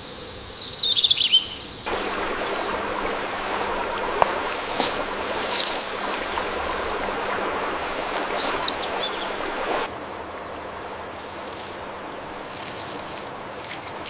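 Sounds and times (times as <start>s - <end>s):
rushing outdoor ambience: 1.8s - 14.0s.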